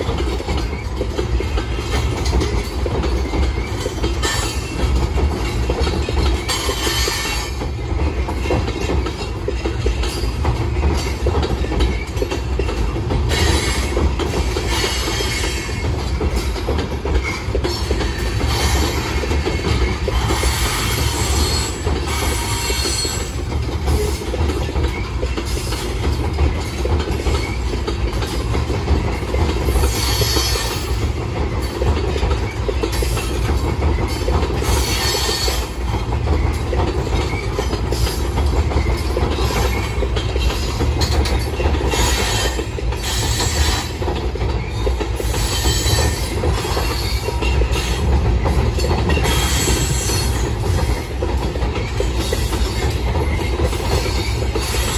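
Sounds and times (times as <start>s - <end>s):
train wheels rumbling over bridge: 0.0s - 54.9s.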